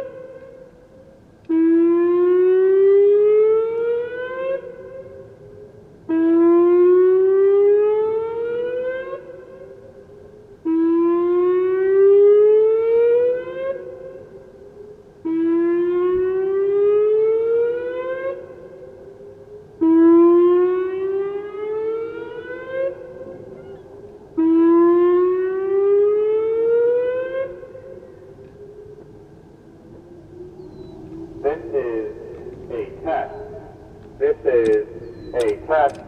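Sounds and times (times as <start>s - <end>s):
warning siren whooping: 1.4s - 36.0s.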